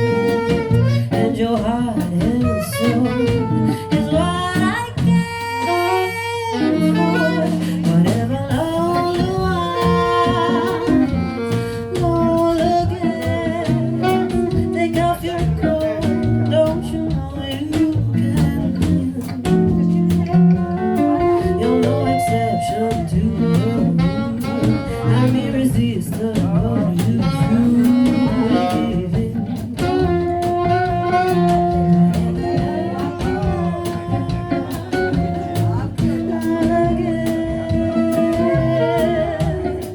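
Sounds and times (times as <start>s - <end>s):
double bass: 0.0s - 39.9s
drum kit: 0.0s - 39.9s
guitar: 0.0s - 39.9s
person singing: 0.0s - 39.9s
saxophone: 0.0s - 39.9s.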